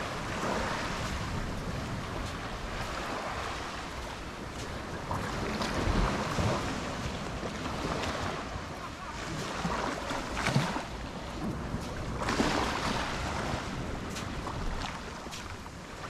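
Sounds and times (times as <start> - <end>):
small waves washing onto beach: 0.0 - 16.0
wind buffeting microphone: 0.0 - 16.0.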